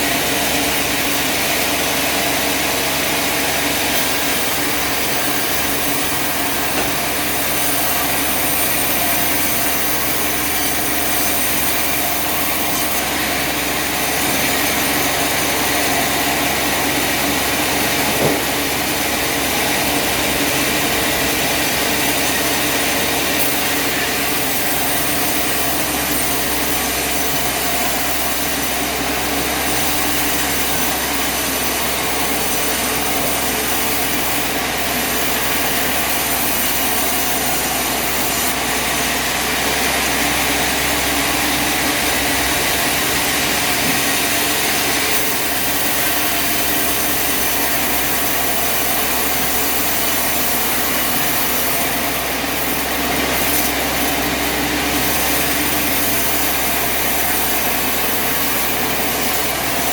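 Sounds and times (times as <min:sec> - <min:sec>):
engine drone: 0:00.0 - 0:59.9
saw blade cutting wood: 0:00.0 - 0:59.9.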